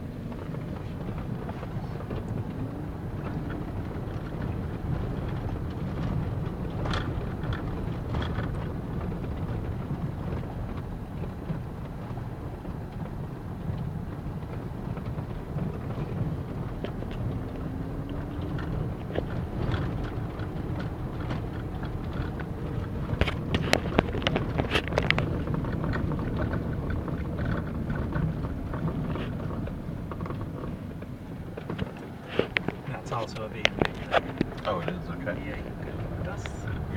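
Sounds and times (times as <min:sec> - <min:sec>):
car road noise rumble: 0:00.0 - 0:36.9
knocks and rattles: 0:00.2 - 0:36.9.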